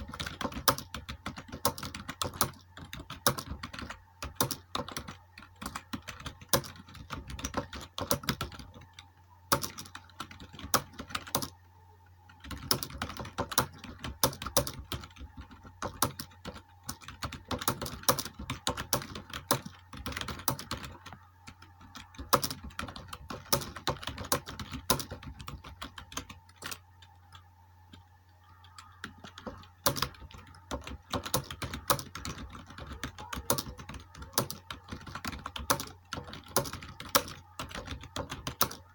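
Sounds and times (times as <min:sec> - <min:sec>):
keyboard typing clicks: 0:00.0 - 0:11.6, 0:12.2 - 0:38.9
low steady hum: 0:00.0 - 0:38.9.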